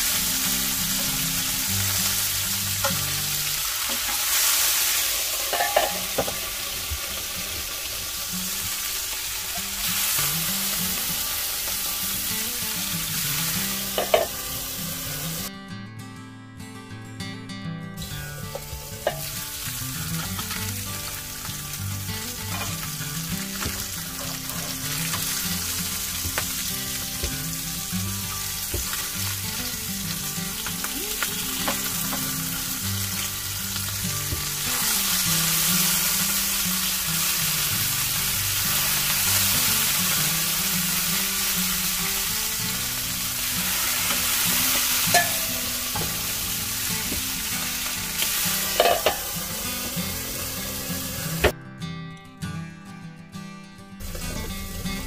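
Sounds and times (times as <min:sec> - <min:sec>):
food sizzling in oil: 0:00.0 - 0:15.5, 0:18.1 - 0:51.5, 0:54.0 - 0:55.0.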